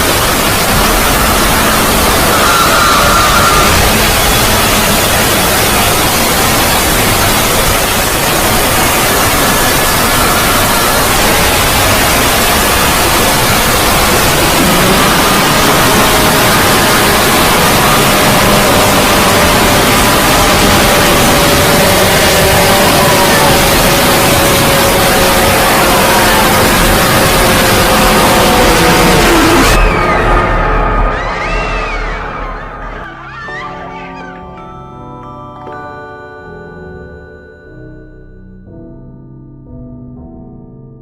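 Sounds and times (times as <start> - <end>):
distorted static noise: 0.0 - 34.4.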